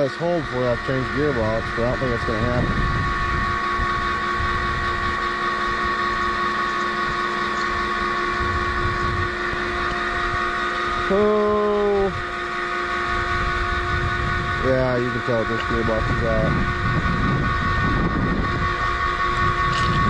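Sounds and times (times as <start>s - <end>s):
gearbox whining and grinding: 0.0s - 11.2s, 12.1s - 20.0s.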